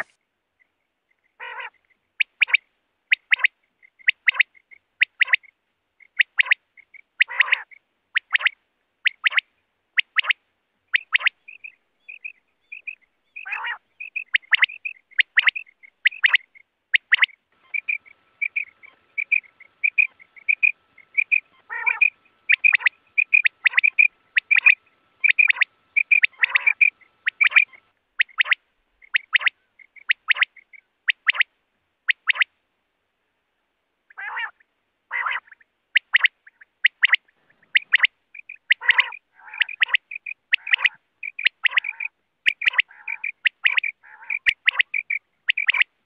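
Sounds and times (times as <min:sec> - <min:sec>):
quail calling: 0:01.2 - 0:31.5, 0:32.1 - 0:32.5, 0:34.1 - 0:46.0.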